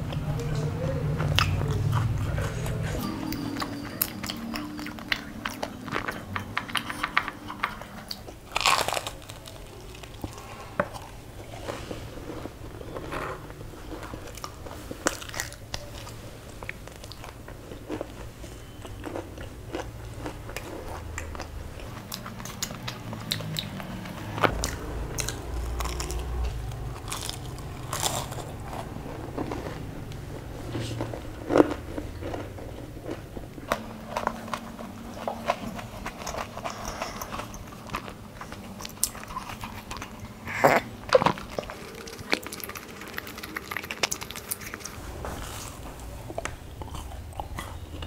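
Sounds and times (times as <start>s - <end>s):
crunchy chewing: 0.0s - 48.0s.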